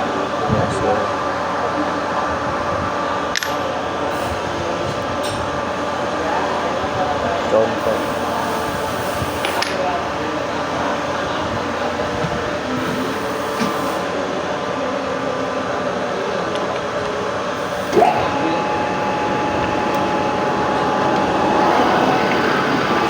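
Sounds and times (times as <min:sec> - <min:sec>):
factory machinery drone: 0:00.0 - 0:23.0.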